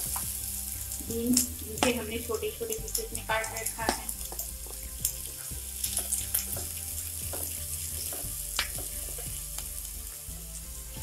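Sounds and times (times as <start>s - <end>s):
vegetables sizzling in a frying pan: 0.0s - 11.0s.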